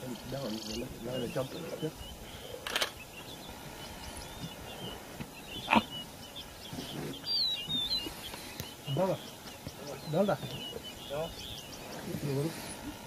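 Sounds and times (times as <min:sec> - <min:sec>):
birds chirping and whistling: 0:00.0 - 0:13.0.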